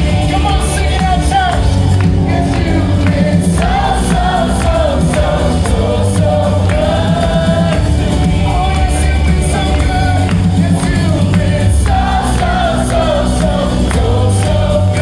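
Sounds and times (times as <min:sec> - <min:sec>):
group singing: 0:00.0 - 0:15.0
worship band playing: 0:00.0 - 0:15.0.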